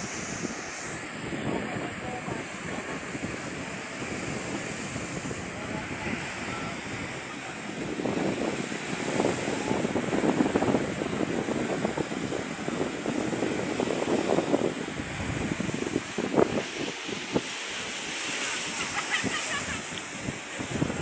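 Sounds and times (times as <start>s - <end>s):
waves breaking on beach: 0.0s - 21.0s
wind buffeting microphone: 0.0s - 21.0s.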